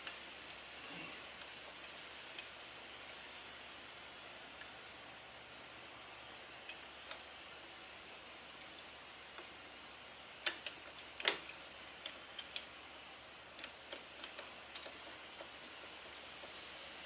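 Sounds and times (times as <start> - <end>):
low hiss: 0.0 - 17.0.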